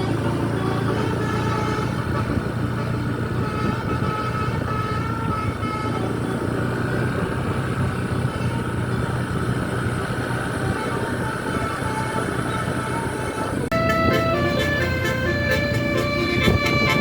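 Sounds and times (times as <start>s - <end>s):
bus engine and road noise: 0.0s - 17.0s
musical bus horn: 0.0s - 17.0s.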